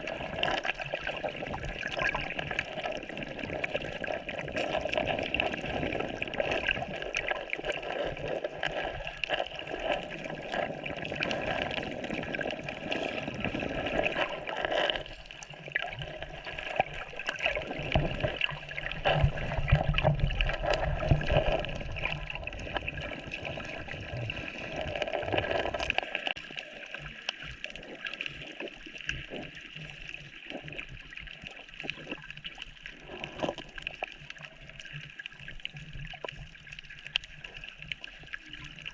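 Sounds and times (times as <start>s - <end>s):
sea water gurgling and sloshing: 0.0s - 38.9s.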